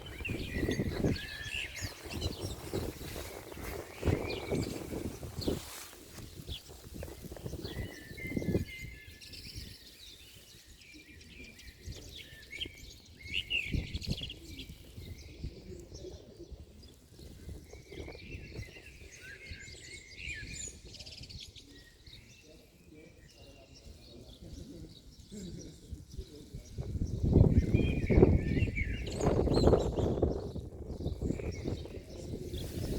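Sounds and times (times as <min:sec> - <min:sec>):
small birds chirping: 0:00.0 - 0:32.9
wind rumbling on microphone: 0:00.0 - 0:32.9.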